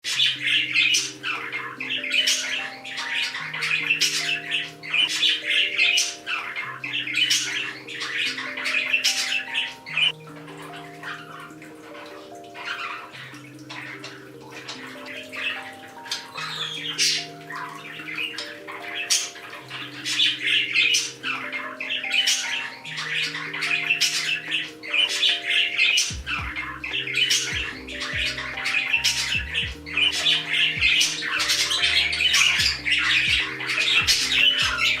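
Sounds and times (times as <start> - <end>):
background music with slow bass: 0.0 - 35.0
parrots squawking and chattering: 0.0 - 35.0.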